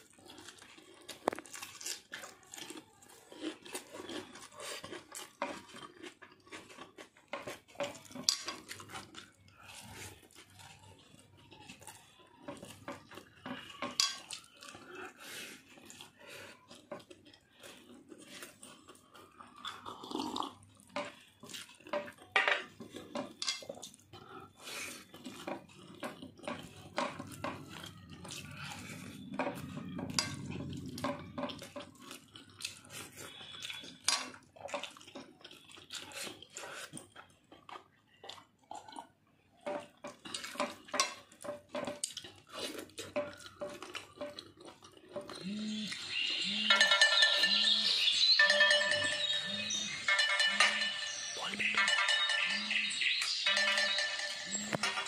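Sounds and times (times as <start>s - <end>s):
chewing: 0.0s - 55.0s.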